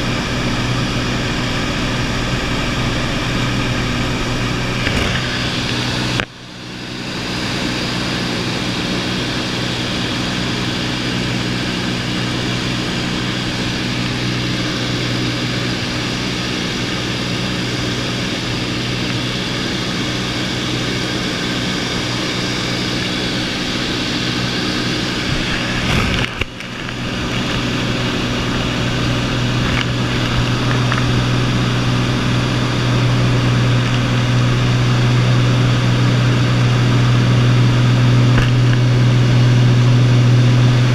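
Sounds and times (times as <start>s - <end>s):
aircraft engine and propeller droning: 0.0s - 40.9s.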